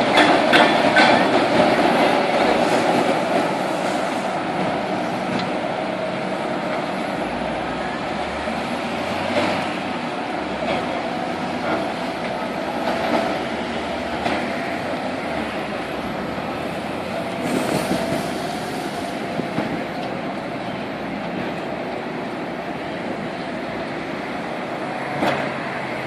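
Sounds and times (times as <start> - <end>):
excavator rumbling and grinding: 0.0 - 22.6.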